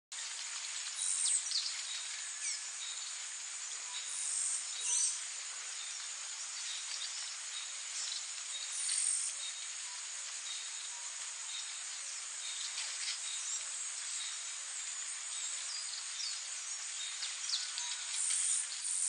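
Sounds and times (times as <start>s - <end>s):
insects trilling: 0.4s - 19.0s.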